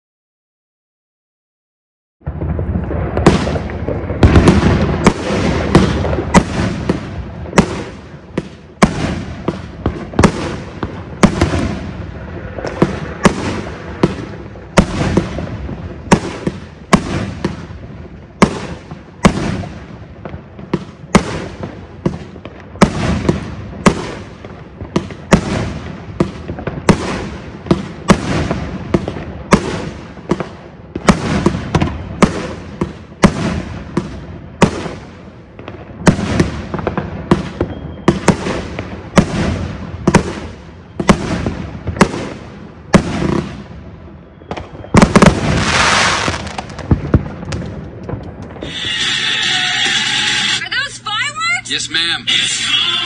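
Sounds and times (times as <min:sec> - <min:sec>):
firework cake bangs: 0:02.2 - 0:17.8, 0:18.4 - 0:43.7, 0:44.4 - 0:49.2.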